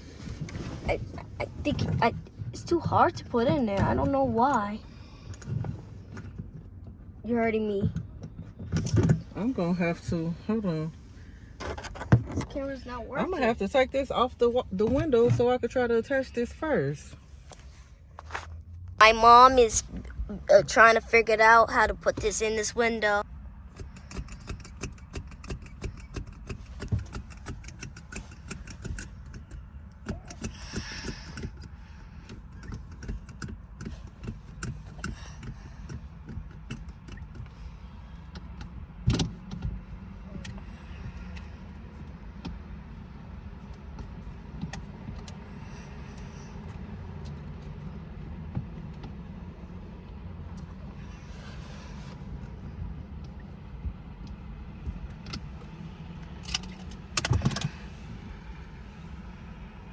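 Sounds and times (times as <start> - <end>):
low rumble in car cabin: 0.0 - 59.9.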